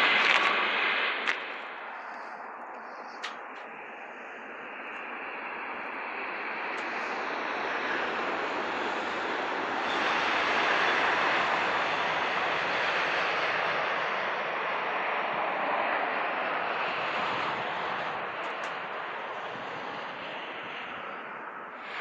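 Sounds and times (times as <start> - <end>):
high-speed train passing: 0.0 - 22.0.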